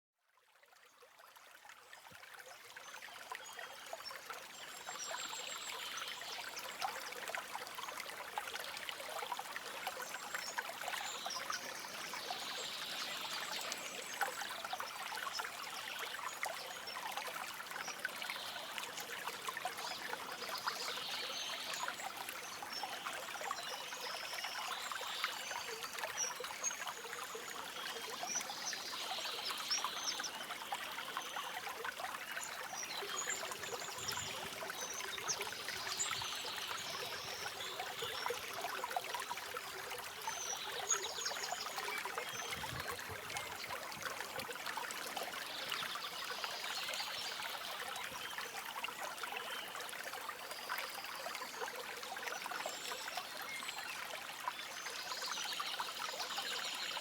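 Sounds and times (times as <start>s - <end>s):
stream babbling: 4.2s - 55.1s.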